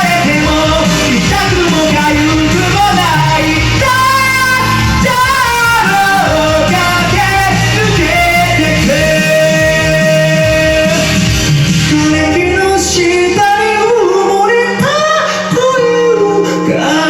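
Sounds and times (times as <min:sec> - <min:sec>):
karaoke backing track: 0:00.0 - 0:17.0
person singing: 0:00.0 - 0:17.0.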